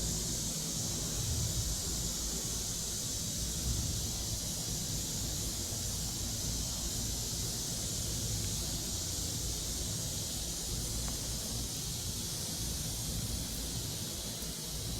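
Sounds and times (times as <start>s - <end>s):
cicadas chorus: 0.0s - 14.9s.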